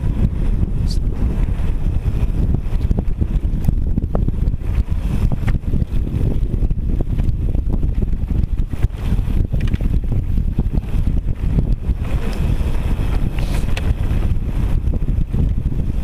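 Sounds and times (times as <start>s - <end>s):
tyres rumbling on gravel: 0.0s - 16.0s
wind buffeting microphone: 0.0s - 16.0s
stones clicking and bike rattling: 1.4s - 15.9s.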